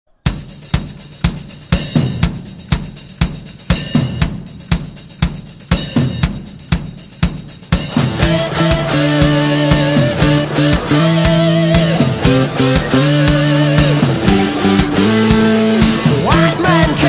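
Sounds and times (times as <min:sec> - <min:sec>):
drum kit rock beat: 0:00.1 - 0:17.0.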